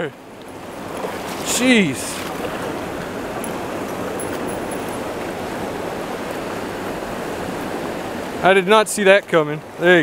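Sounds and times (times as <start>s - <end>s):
river rushing over rocks: 0.1s - 10.0s.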